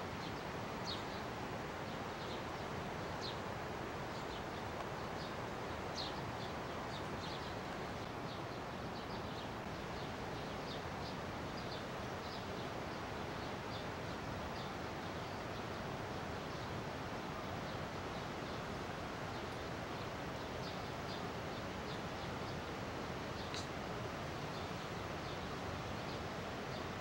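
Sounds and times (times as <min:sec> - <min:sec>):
small birds chirping: 0:00.2 - 0:27.0.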